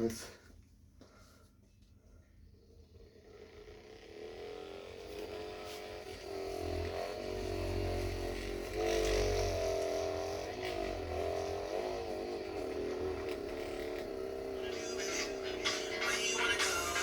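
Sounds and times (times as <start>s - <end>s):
small motor running: 2.5s - 17.0s.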